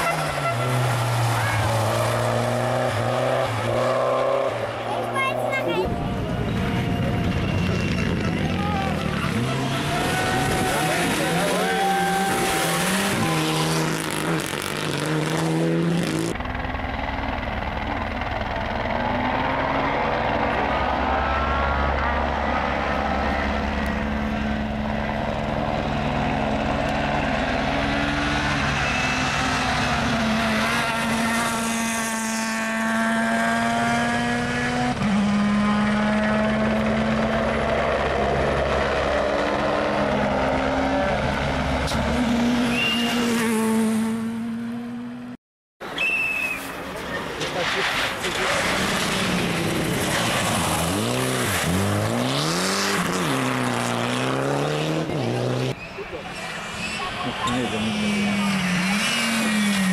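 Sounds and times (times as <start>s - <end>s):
rally car engines revving: 0.0s - 16.7s, 17.8s - 45.4s, 46.1s - 59.9s.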